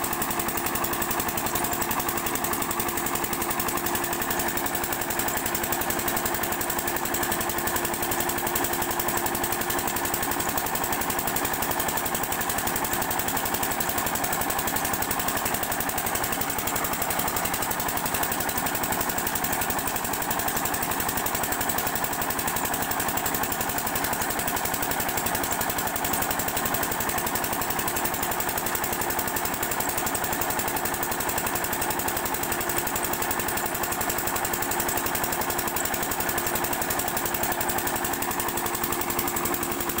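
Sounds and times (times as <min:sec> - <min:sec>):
diesel pump engine chugging: 0:00.0 - 0:40.0.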